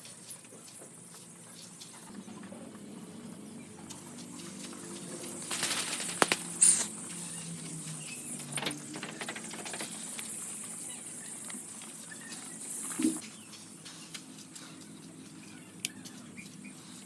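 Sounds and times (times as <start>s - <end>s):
chicks pecking and scratching: 0.0s - 17.0s.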